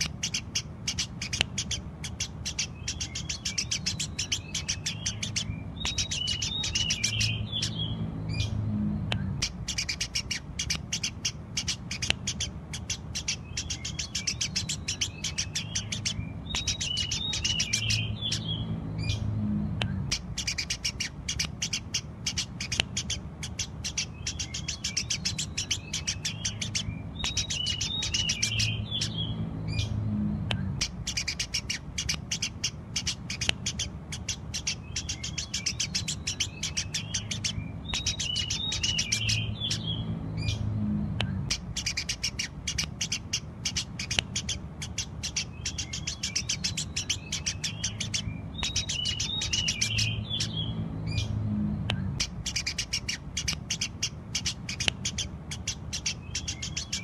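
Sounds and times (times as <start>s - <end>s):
sparrows chirping: 0.0s - 57.0s
steady low hum: 0.0s - 57.0s.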